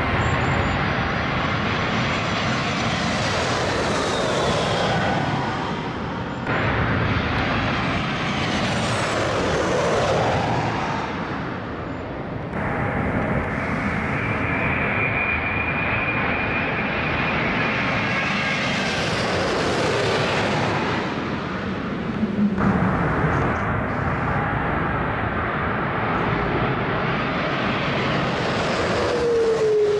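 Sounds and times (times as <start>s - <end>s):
jet engine whine and rumble: 0.0s - 29.9s.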